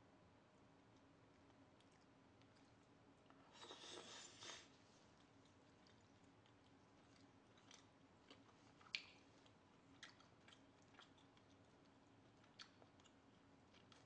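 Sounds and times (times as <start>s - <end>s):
faint chewing mouth clicks: 0.9s - 14.0s.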